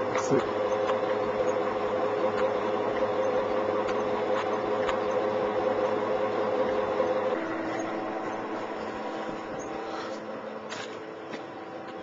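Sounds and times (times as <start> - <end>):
pulse motor humming: 0.0 - 12.0.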